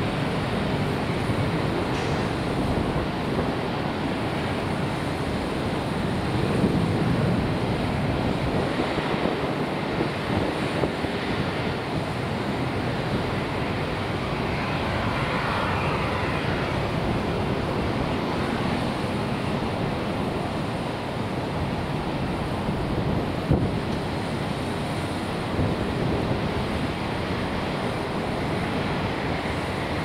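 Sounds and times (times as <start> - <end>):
jet engines idling: 0.0 - 30.0
wind on microphone: 0.0 - 30.0.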